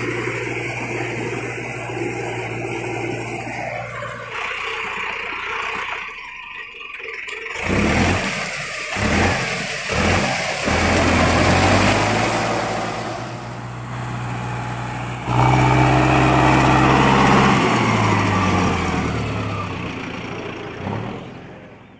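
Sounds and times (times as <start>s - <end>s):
tractor diesel engine revving: 0.0s - 21.9s.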